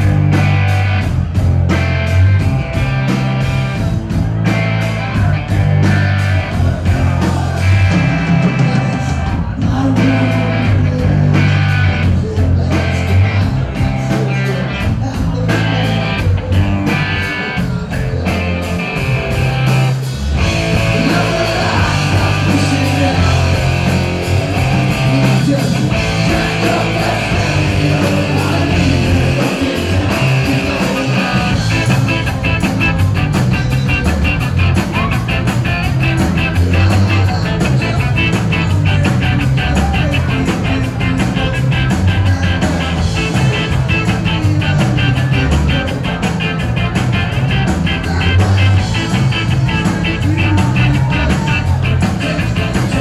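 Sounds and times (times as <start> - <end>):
live reggae rock band: 0.0 - 53.0
person singing lead vocals: 5.0 - 53.0.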